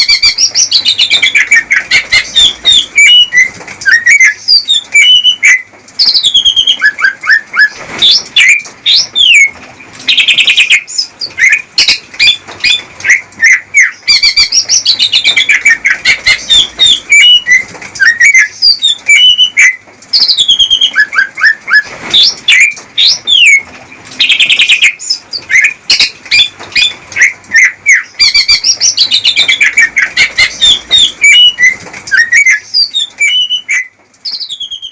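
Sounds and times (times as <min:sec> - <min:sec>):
bird singing whistles and trills: 0:00.0 - 0:09.5, 0:10.1 - 0:23.6, 0:24.2 - 0:34.9.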